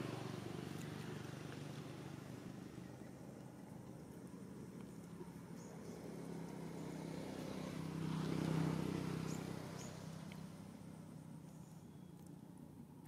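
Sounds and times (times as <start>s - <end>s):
vehicle engine passing by: 0.0s - 11.9s.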